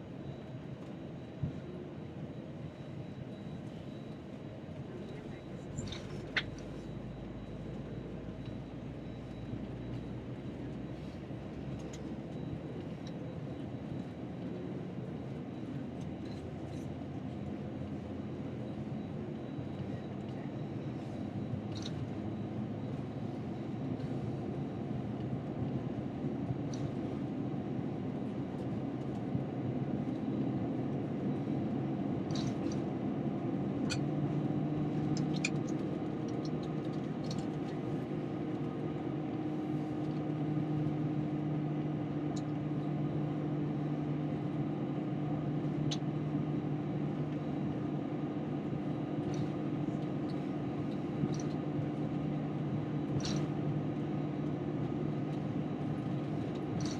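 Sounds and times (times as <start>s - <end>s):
idling jet engines and cabin air: 0.0s - 56.9s.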